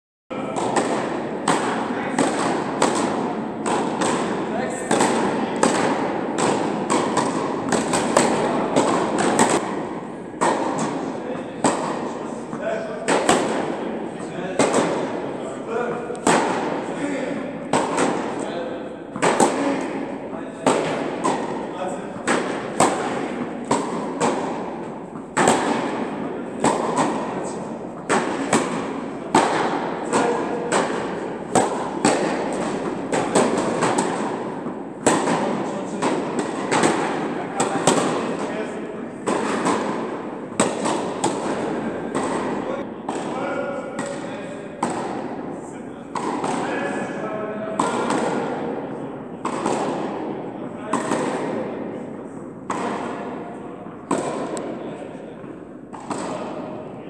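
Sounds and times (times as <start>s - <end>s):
steady background noise: 0.3s - 57.0s
tennis balls struck and bouncing: 0.3s - 57.0s.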